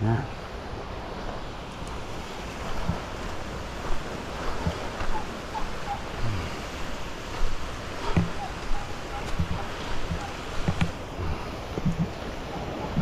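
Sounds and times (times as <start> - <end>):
waves washing onto sandy shore: 0.0 - 13.0
wind on microphone: 0.0 - 13.0.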